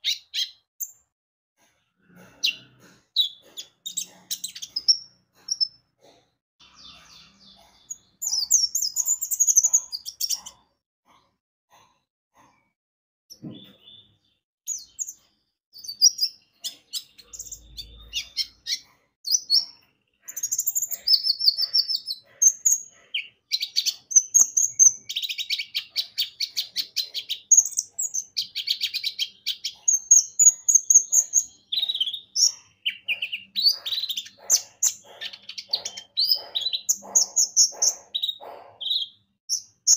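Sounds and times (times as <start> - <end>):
sunbird twittering chirps and trills: 2.4 - 5.8, 6.6 - 10.6, 13.3 - 39.9.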